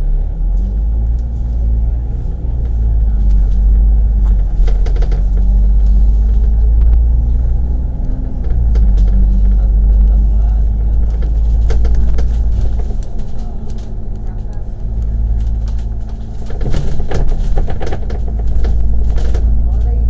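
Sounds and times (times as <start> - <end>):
bus engine rumbling: 0.0 - 20.0
faint bodywork rattles: 0.6 - 20.0.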